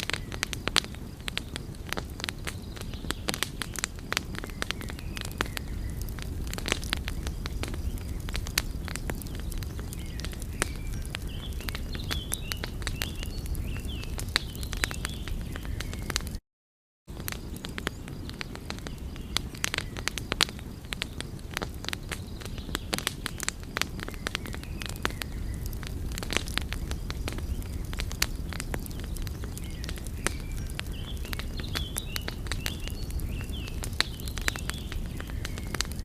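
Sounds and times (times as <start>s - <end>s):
wood fire crackling and popping: 0.0s - 16.4s, 17.1s - 36.0s.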